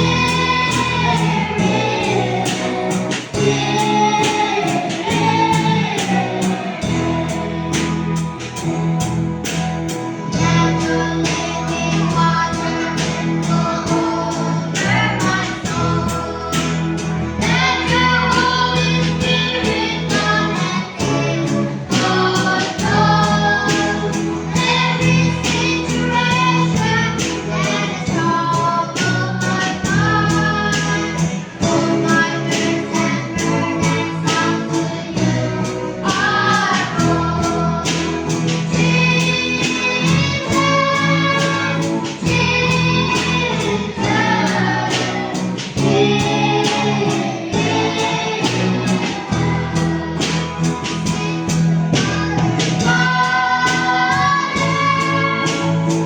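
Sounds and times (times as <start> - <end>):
guitar: 0.0 - 56.0
people singing: 0.0 - 56.0
steady bass line: 0.0 - 56.0.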